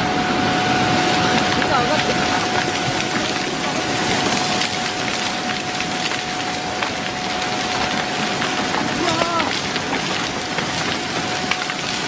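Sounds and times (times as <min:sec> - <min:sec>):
floodwater rushing with debris: 0:00.0 - 0:12.0
cracks and knocks of debris: 0:01.2 - 0:12.0.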